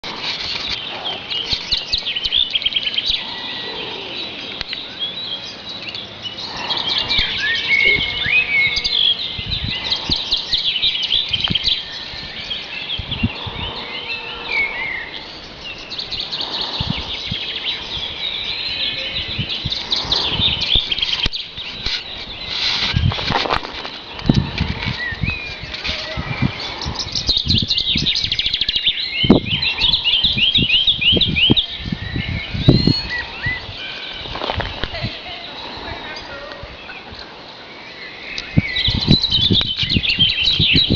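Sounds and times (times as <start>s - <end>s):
birds chirping chorus: 0.0s - 40.9s.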